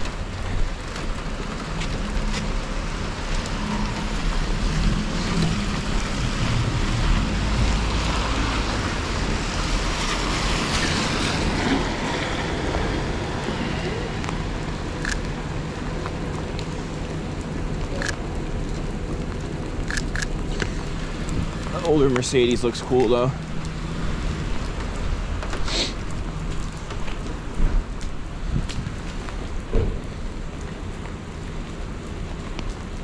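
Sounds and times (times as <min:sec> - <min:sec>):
steady rain: 0:00.0 - 0:33.0
traffic on wet street: 0:00.0 - 0:33.0
tyres on wet pavement: 0:00.0 - 0:33.0.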